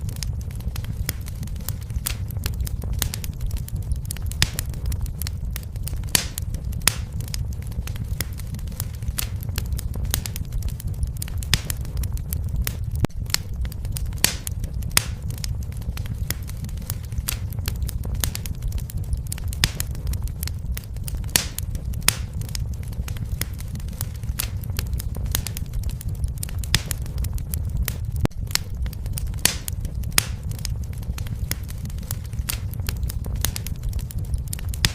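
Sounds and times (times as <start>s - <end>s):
fireplace fire crackling: 0.0s - 34.9s
low rumble: 0.0s - 34.9s
sharp pops of fire: 0.0s - 34.9s.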